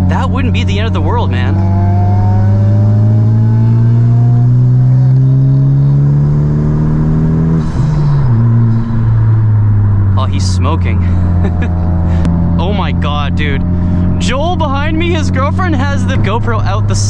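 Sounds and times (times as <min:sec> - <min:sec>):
car engine revving in cabin: 0:00.0 - 0:17.0.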